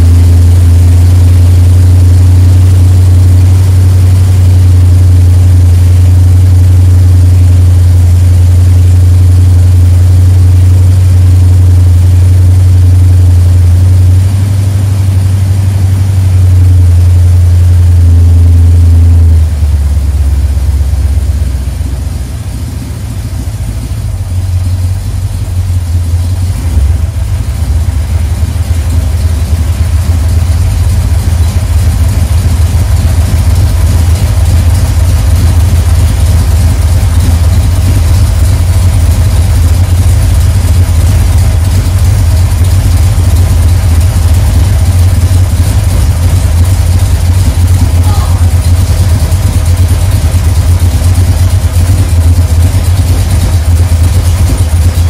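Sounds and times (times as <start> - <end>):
engine deep low rumble: 0.0 - 55.0.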